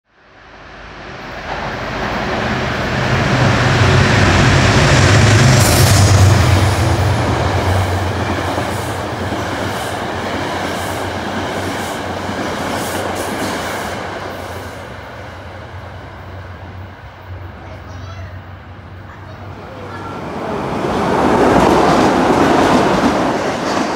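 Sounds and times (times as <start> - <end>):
train running past: 0.1 - 23.9.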